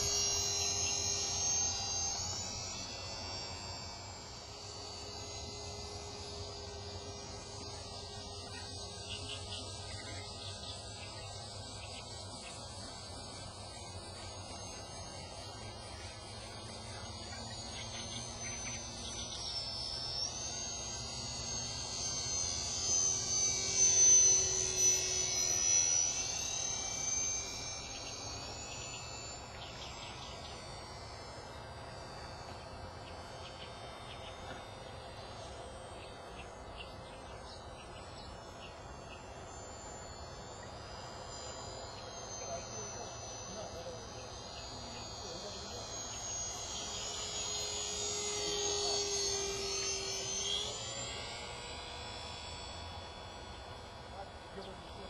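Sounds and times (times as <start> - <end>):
model plane motor whining: 0.0 - 55.0.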